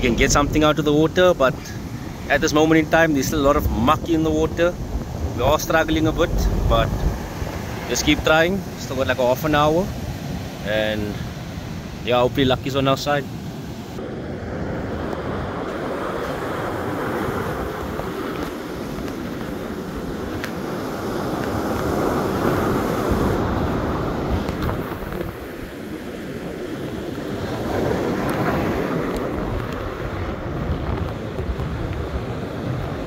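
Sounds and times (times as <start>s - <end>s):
wind buffeting microphone: 0.0s - 12.1s, 13.5s - 33.0s
ocean waves breaking on beach: 0.0s - 33.0s.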